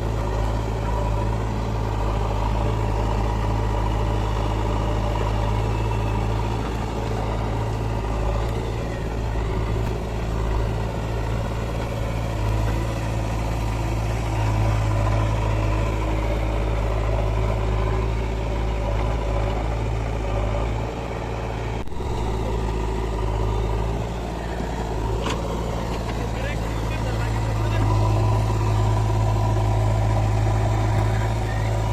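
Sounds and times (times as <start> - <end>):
heavy diesel engine humming: 0.0 - 31.9.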